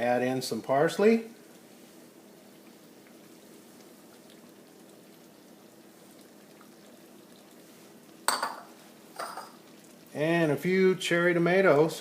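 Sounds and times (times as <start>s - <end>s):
sauce bubbling in a pan: 0.6s - 11.8s.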